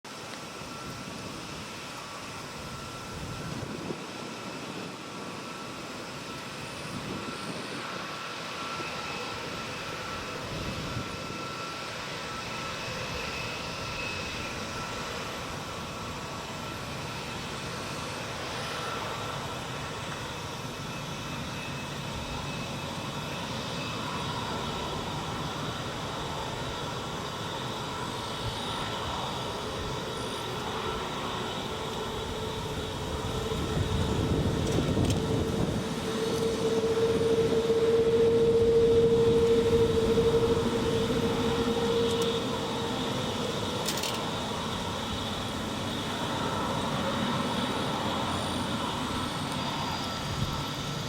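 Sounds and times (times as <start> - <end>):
jet engines at takeoff power: 0.0 - 51.0.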